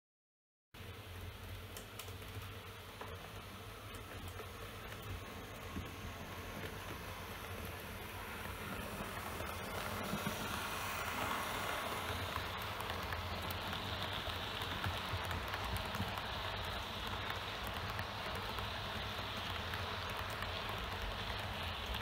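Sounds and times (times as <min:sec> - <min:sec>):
model train wheels rattling on rails: 0:04.0 - 0:22.0.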